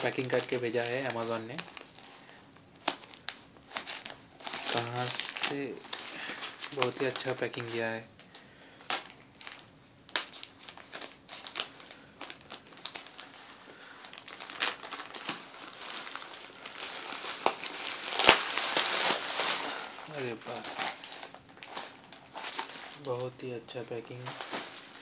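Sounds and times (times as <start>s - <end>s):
plastic mailer and bubble wrap crinkling: 0.0s - 25.0s.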